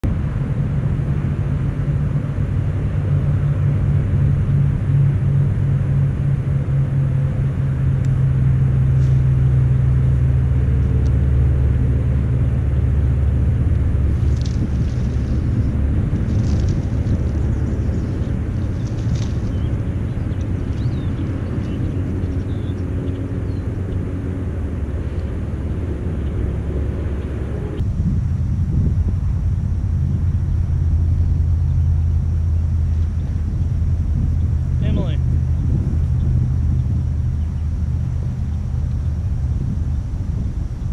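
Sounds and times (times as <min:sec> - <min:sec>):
engine droning hum: 0:00.0 - 0:40.9.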